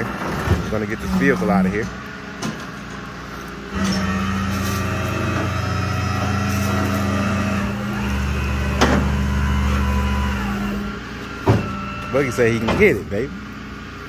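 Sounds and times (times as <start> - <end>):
truck hydraulic engine and pump drone: 0.0 - 14.0.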